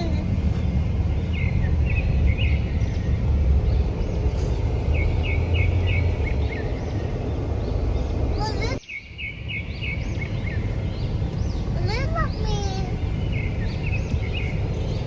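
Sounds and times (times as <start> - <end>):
heavy low rumble: 0.0 - 15.0
small birds chirping: 0.0 - 15.0.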